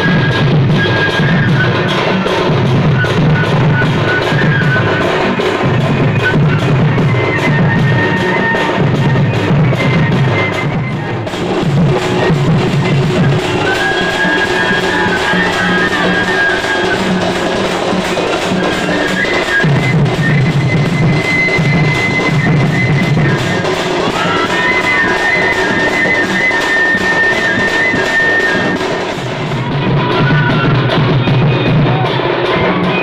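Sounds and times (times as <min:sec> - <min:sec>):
barrel drums drumming: 0:00.0 - 0:33.0.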